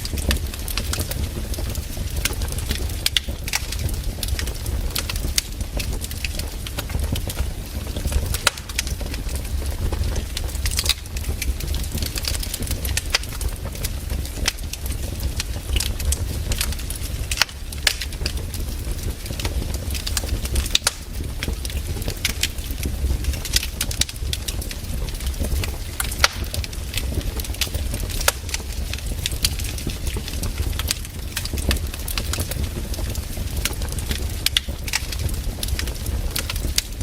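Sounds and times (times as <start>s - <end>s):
firewood crackling and popping: 0.0s - 37.0s
low fire rumble: 0.0s - 37.0s.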